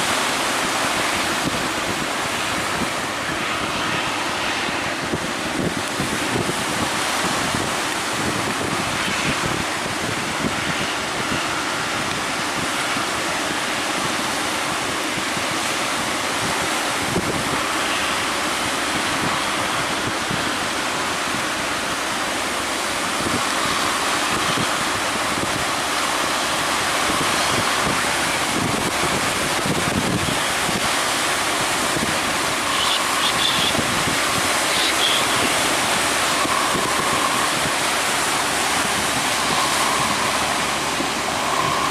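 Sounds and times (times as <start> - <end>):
sea waves breaking: 0.0 - 41.9
wind buffeting microphone: 0.0 - 41.9.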